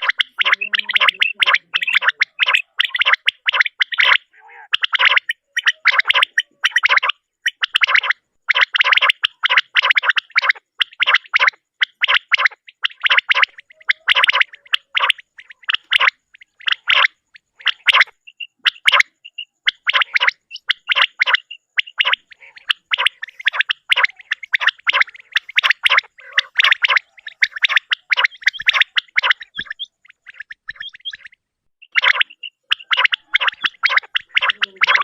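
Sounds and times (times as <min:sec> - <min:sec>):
quail calling: 0:00.0 - 0:35.0.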